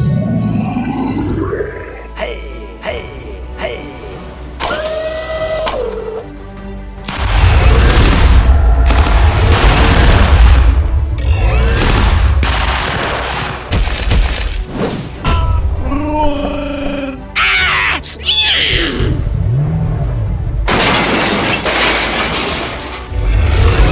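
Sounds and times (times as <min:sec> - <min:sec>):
background music: 0:00.0 - 0:23.9.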